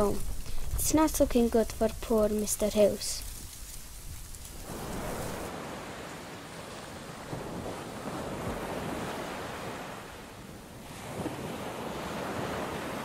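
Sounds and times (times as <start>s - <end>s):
small waves on shingle beach: 0.9s - 13.0s.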